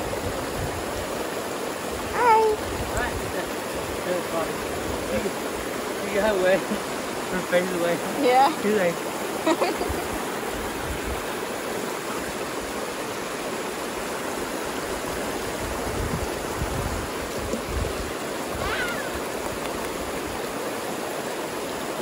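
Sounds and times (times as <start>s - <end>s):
creek running over rocks: 0.0s - 22.0s.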